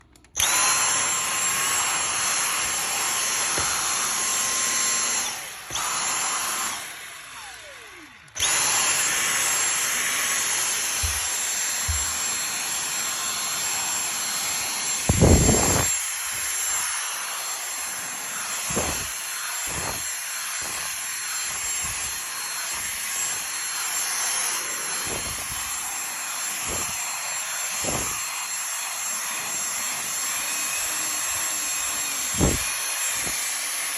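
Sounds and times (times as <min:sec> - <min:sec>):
vacuum cleaner whine: 0:00.0 - 0:33.9.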